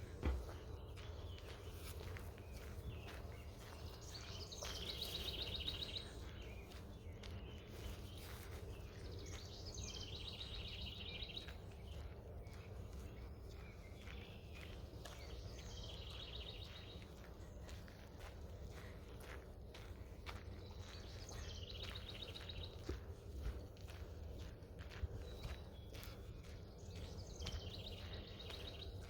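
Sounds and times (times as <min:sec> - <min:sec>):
outdoor background rumble: 0:00.0 - 0:29.0
songbird singing trills: 0:00.0 - 0:29.0.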